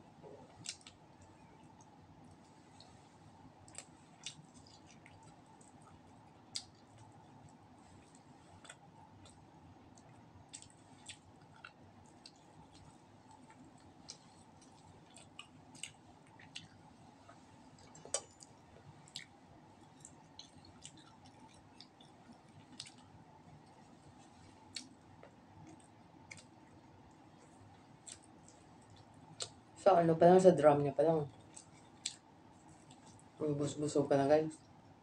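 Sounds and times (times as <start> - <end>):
chewing and smacking: 0.4 - 29.8, 31.3 - 33.4.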